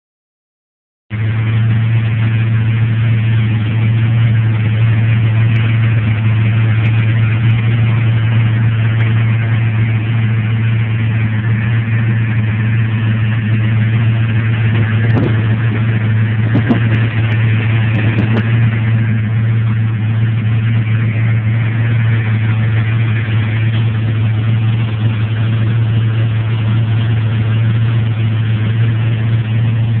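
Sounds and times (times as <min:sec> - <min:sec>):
car engine idling: 0:01.1 - 0:30.0.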